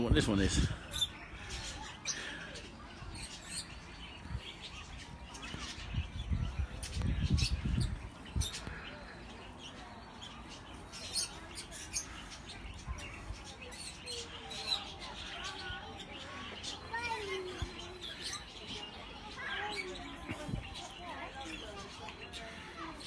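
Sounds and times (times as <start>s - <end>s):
birds chirping and squawking: 0.0s - 23.0s.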